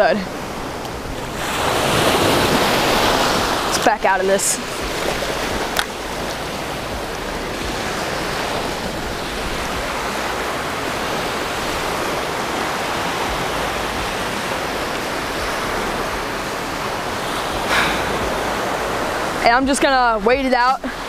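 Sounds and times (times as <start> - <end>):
small waves breaking in surf: 0.0 - 19.6.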